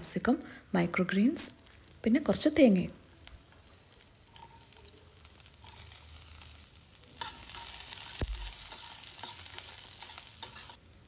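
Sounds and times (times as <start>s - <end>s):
vegetables sizzling in oil: 0.9s - 11.0s.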